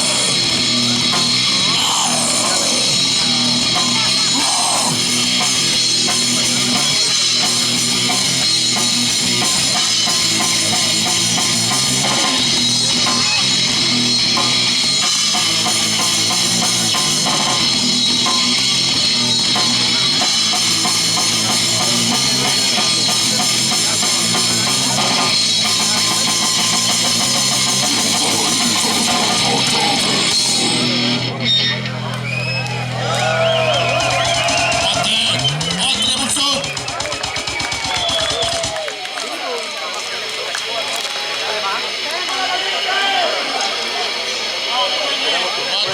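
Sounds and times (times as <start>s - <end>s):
heavy rock band playing: 0.0s - 38.9s.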